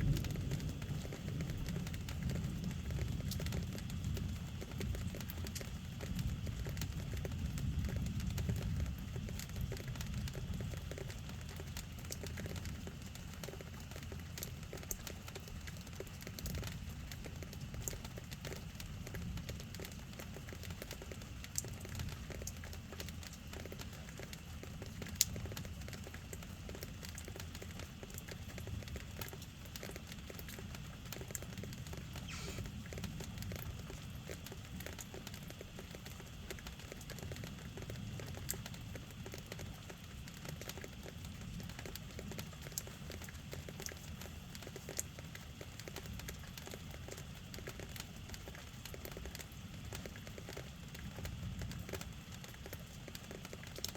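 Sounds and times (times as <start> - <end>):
drops ticking on a surface: 0.0 - 53.9
rain falling: 0.0 - 53.9.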